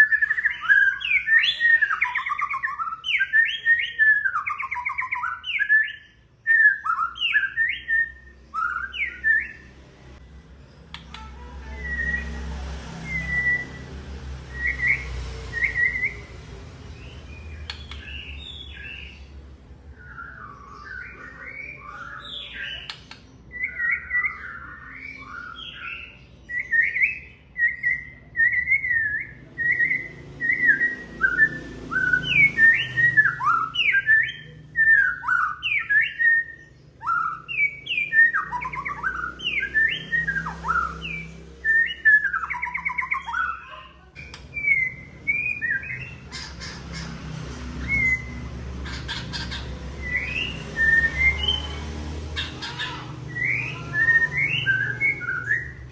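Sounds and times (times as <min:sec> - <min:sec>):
bird singing whistled notes: 0:00.0 - 0:09.8, 0:10.9 - 0:47.0, 0:47.8 - 0:55.9.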